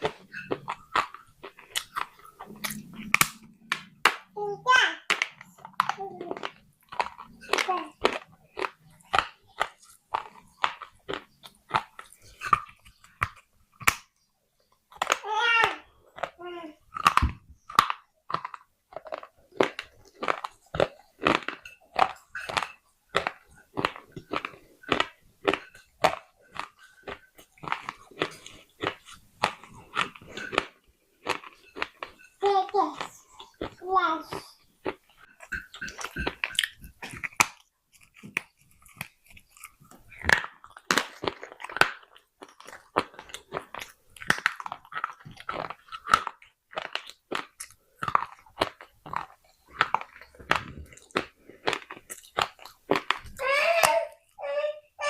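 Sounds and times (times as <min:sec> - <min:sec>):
crunchy chewing: 0:00.0 - 0:04.0, 0:05.2 - 0:15.2, 0:16.0 - 0:53.4.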